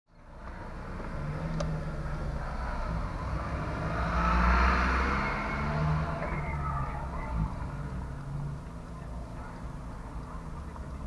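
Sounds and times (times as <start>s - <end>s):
car engines humming: 0.1s - 11.0s.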